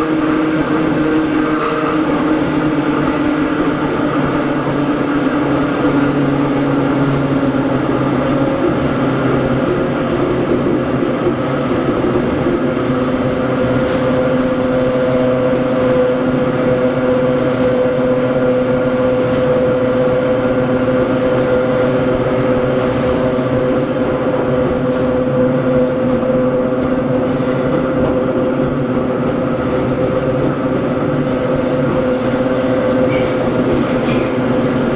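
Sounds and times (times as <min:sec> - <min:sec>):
wheels rumbling on rail: 0:00.0 - 0:34.9.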